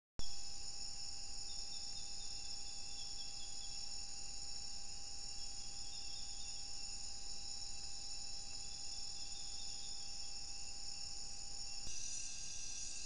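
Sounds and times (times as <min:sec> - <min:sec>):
insects trilling: 0:00.2 - 0:13.0.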